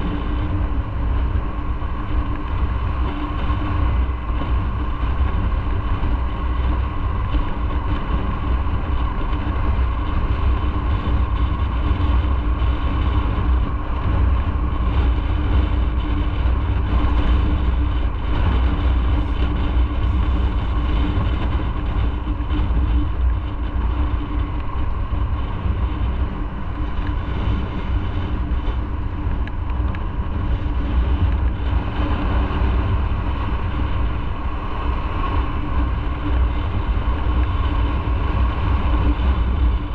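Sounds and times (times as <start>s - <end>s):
motorcycle engine running: 0.0s - 39.9s
road noise: 0.0s - 39.9s
steady hum: 0.0s - 39.9s
wind rush: 0.0s - 39.9s.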